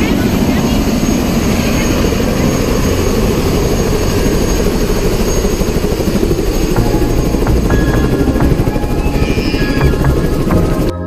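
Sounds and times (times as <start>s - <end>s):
helicopter rotor and engine: 0.0s - 11.0s.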